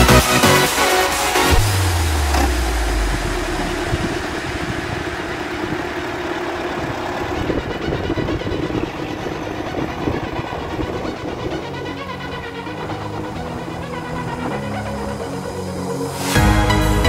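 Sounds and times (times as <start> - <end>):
tractor diesel engine running: 1.2 - 17.0.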